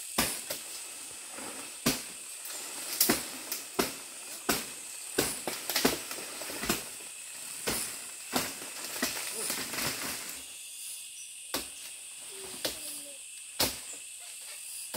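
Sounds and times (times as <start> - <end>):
palm fronds chopped and snapping: 0.0 - 10.4, 11.5 - 14.0
steady high hiss: 0.0 - 14.9.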